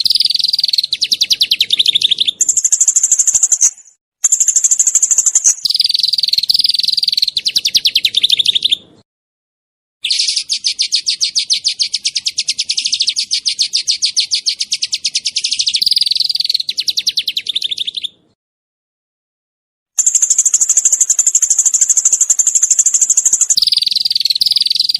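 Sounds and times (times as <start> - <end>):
songbird trilling: 0.0 - 8.9, 10.0 - 18.2, 20.0 - 24.9.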